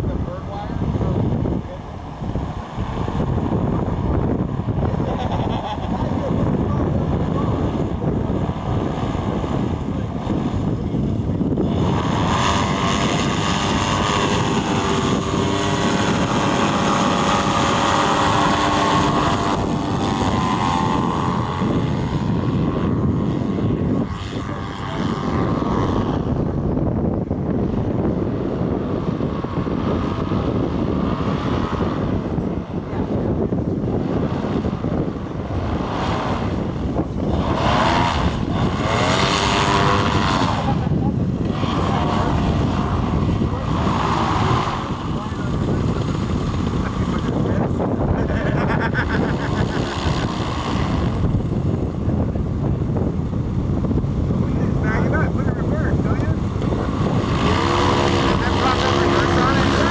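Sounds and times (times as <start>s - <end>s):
paramotor engine and propeller: 0.0s - 59.9s
wind noise on microphone: 0.0s - 59.9s.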